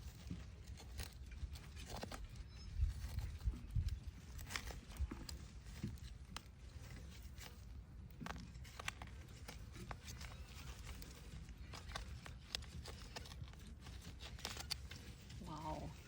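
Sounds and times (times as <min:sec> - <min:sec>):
plants crackling and rustling: 0:00.0 - 0:16.0.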